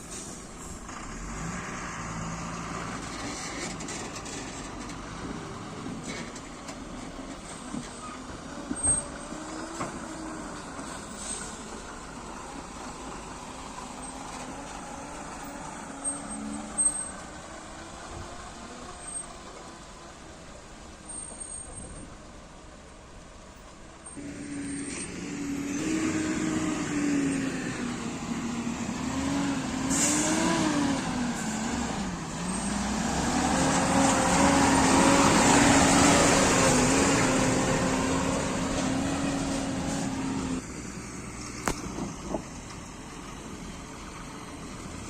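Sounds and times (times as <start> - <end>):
heavy diesel engine labouring: 0.0 - 23.2, 23.8 - 45.0.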